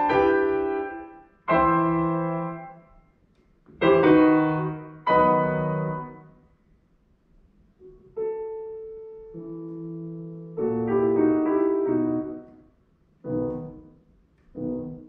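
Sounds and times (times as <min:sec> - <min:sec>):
piano chords: 0:00.0 - 0:06.6, 0:07.8 - 0:15.0.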